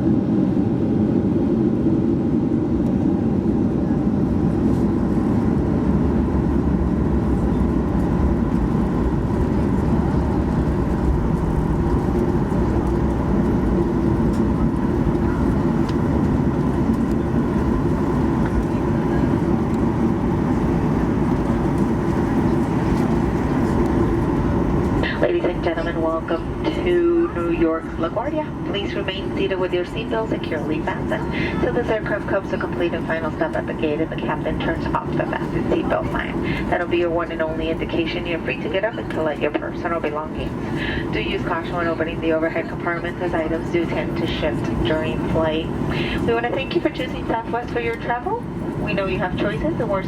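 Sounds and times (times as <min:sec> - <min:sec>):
aircraft cabin engine rumble: 0:00.0 - 0:50.0.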